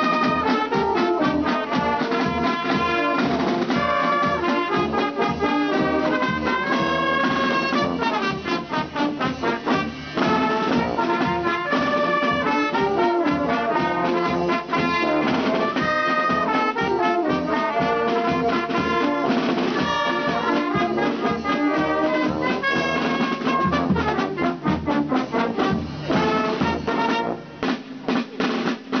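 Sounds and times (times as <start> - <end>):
brass band playing: 0.0 - 29.0
marching drum beat: 0.0 - 29.0.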